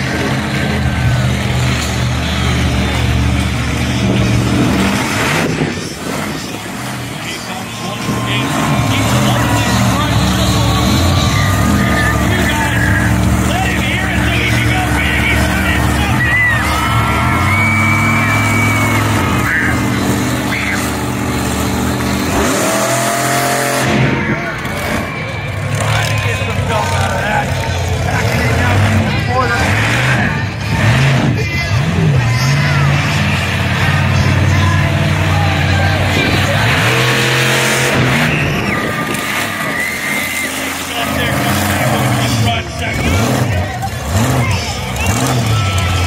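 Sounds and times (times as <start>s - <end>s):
monster truck engine revving: 0.0s - 46.0s.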